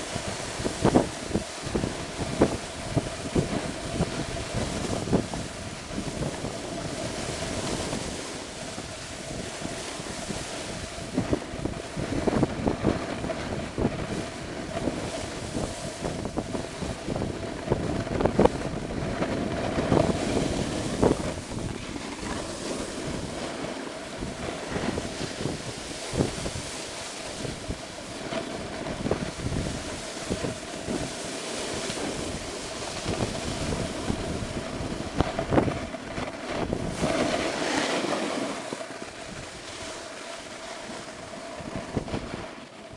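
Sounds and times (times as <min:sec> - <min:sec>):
ski edges scraping snow: 0:00.0 - 0:11.4, 0:19.0 - 0:42.6
wind rushing over microphone: 0:00.0 - 0:42.9.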